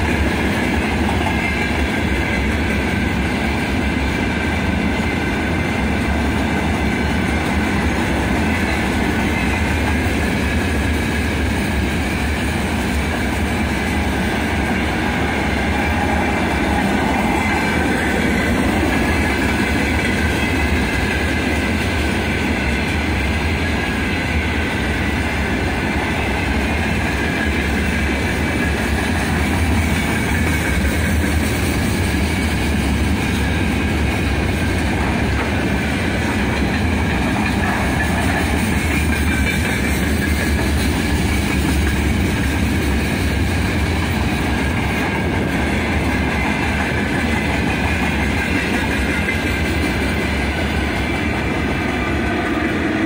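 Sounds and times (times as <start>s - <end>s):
freight train wheels rumbling and rattling: 0.0s - 53.0s.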